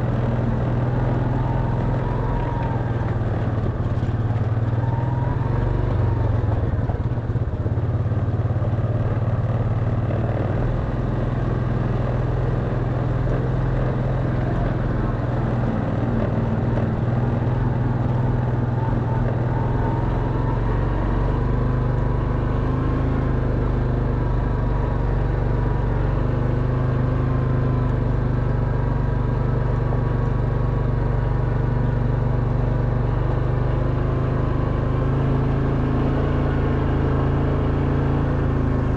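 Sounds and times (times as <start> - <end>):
quad bike engine climbing: 0.0 - 38.9.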